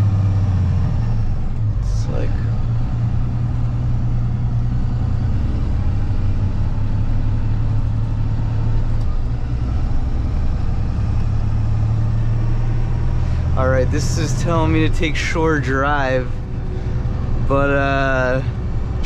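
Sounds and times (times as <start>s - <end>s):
road and traffic noise: 0.0s - 19.0s
truck engine droning: 0.0s - 19.0s.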